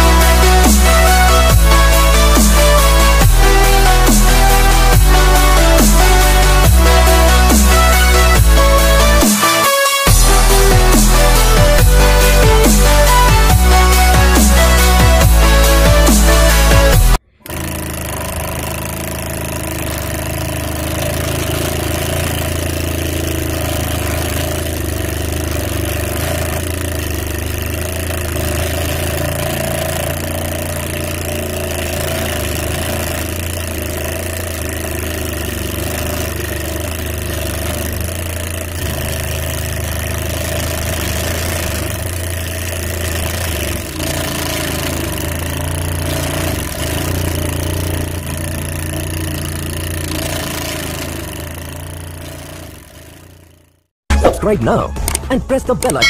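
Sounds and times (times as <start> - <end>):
small electric motor running: 0.0 - 53.8.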